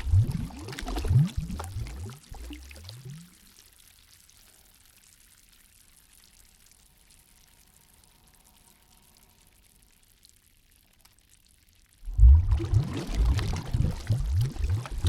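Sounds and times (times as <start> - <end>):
faint hiss of lake water: 0.0 - 15.0.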